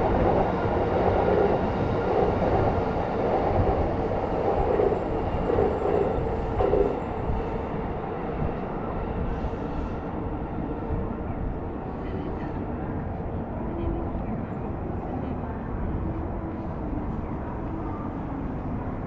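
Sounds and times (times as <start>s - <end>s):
train rumbling along tracks: 0.0s - 19.0s.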